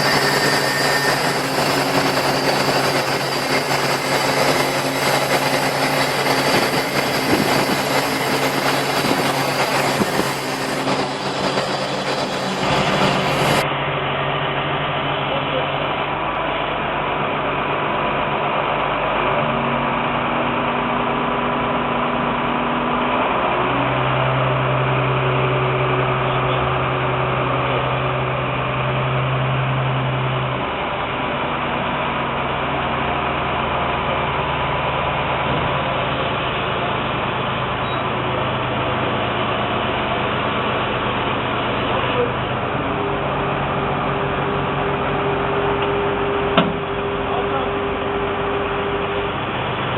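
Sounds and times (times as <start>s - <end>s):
compressor diesel engine humming: 0.0s - 49.9s.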